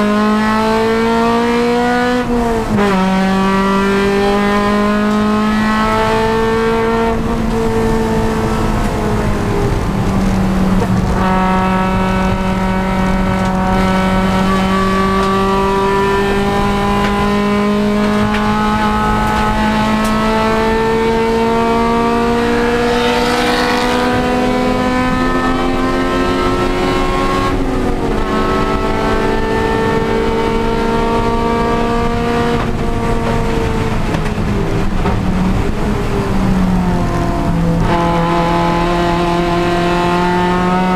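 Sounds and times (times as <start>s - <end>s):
race car engine revving high: 0.0s - 40.9s.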